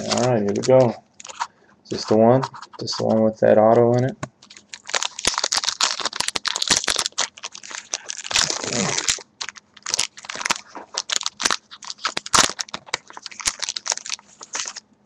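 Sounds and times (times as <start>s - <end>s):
wrapper ripping: 0.0s - 3.0s, 4.4s - 14.8s
card pack wrapper crinkling: 0.0s - 3.2s, 4.4s - 14.8s.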